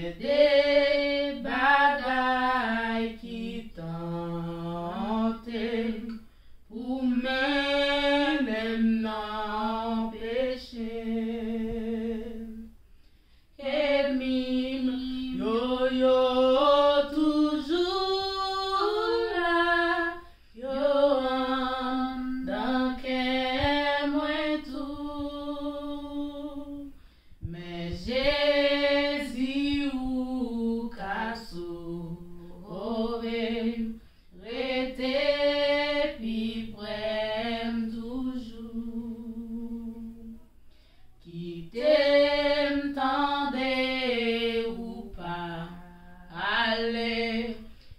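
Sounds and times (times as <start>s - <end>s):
women singing a hymn: 0.0s - 12.8s, 13.5s - 47.9s.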